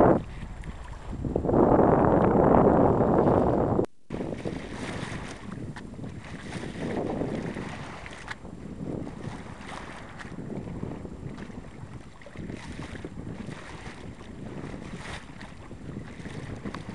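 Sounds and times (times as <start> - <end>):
water washing along hull: 0.0 - 16.9
wind buffeting microphone: 0.0 - 16.9.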